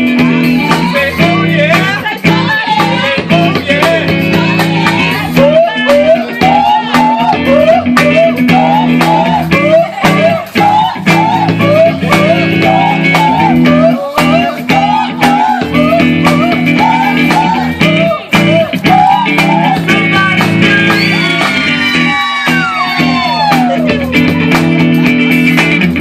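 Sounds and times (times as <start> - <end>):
electric guitar bending lick: 0.0 - 26.0
steady drum beat: 0.0 - 26.0
sustained bass notes: 0.0 - 26.0.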